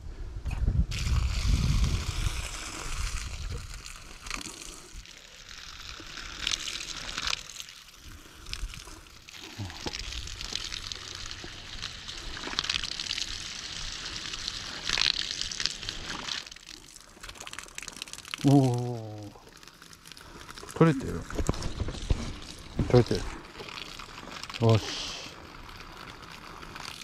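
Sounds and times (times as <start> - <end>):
water pouring onto soil and leaves: 0.9 - 27.0.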